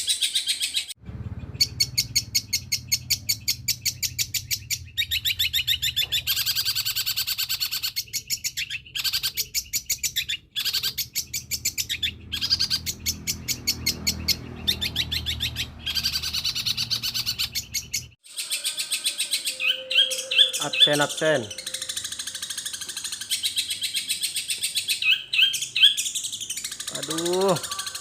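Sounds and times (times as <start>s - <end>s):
bird singing high chirps: 0.0s - 28.0s.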